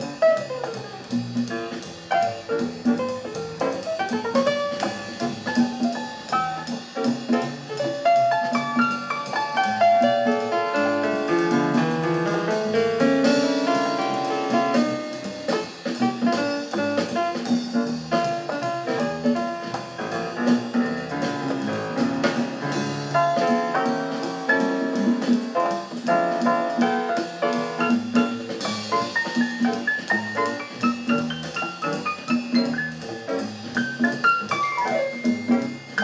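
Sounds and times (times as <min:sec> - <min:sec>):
jazz with piano and drums: 0:00.0 - 0:36.0.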